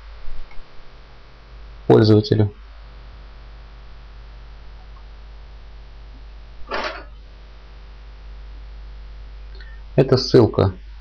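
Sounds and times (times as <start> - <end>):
low electrical hum: 0.0 - 11.0
microphone hiss: 0.0 - 11.0.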